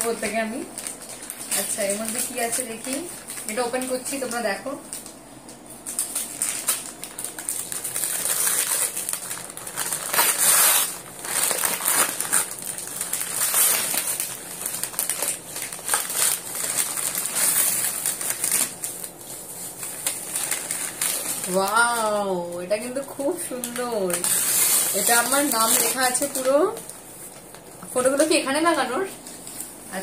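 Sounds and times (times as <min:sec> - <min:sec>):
wrapping rustling and crumpling: 0:00.0 - 0:30.0.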